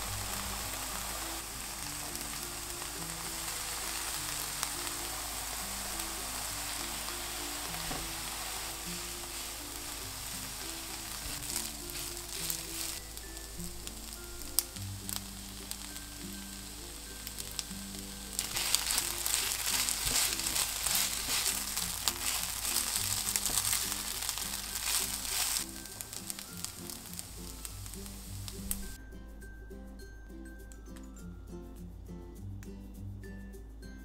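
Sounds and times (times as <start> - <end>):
fried rice sizzling in frying pan: 0.0 - 29.0
background music: 0.0 - 34.0.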